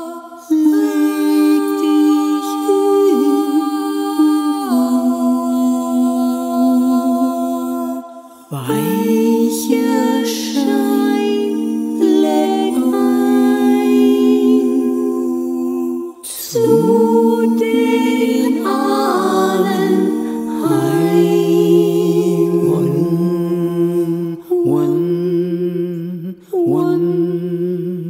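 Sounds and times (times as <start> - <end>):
layered a cappella voices singing: 0.0 - 28.0.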